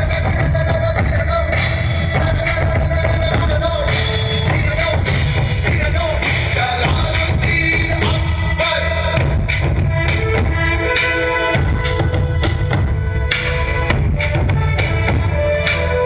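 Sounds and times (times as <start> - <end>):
loud dance music: 0.0 - 16.0.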